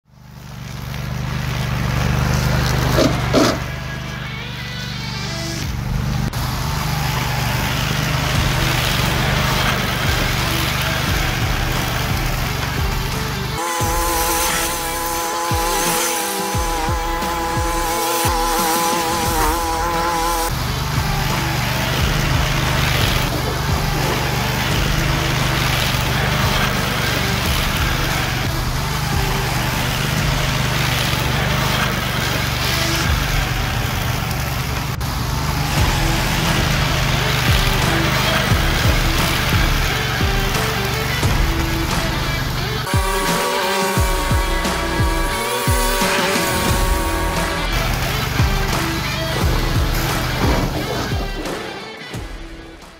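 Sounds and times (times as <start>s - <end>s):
grass and brush cutting noise: 0.0s - 52.9s
mower engine running: 0.0s - 52.9s.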